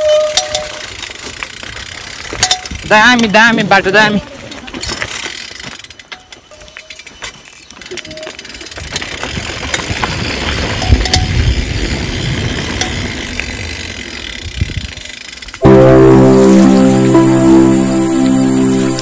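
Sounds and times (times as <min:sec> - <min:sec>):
bike tyres rumbling on trail: 0:00.0 - 0:15.6.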